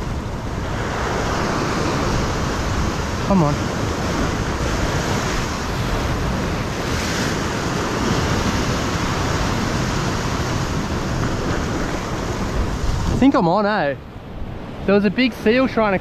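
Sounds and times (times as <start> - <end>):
ocean swell washing over rocks: 0.0 - 16.0.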